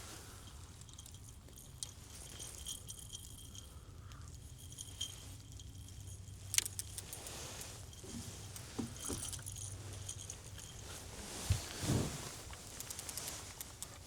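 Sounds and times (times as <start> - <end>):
fishing gear jingling and clicking: 0.0 - 14.0
low steady hum: 0.0 - 14.0.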